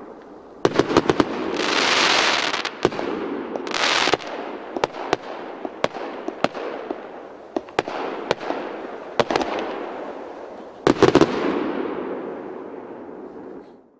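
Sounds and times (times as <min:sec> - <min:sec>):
firework crackling: 0:00.0 - 0:13.0
firework bangs: 0:00.0 - 0:13.8.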